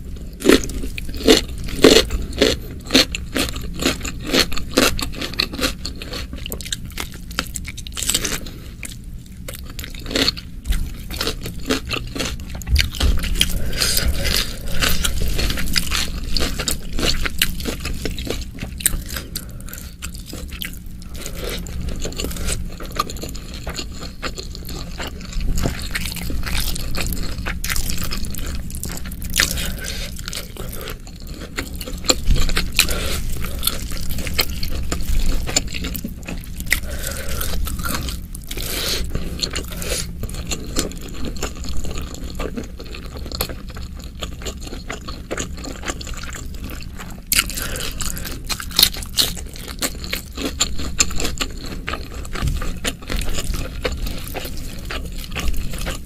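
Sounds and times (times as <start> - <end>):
food crunching: 0.0 - 56.0
wet chewing and mouth clicks: 0.4 - 56.0.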